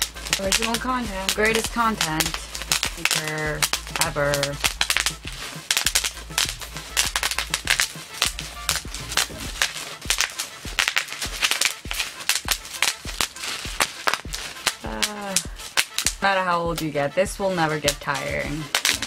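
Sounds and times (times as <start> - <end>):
bubble wrap popping: 0.0 - 19.0.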